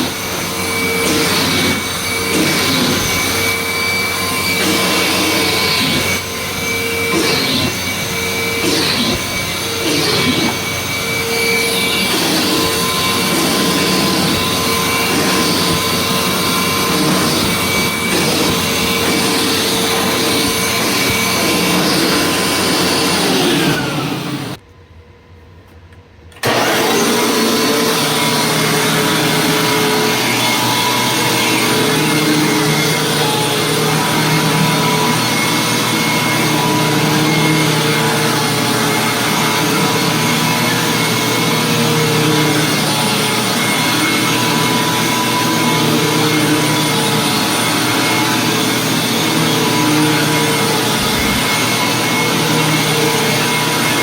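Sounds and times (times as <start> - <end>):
upright vacuum cleaner running: 0.0 - 24.6, 26.4 - 54.0.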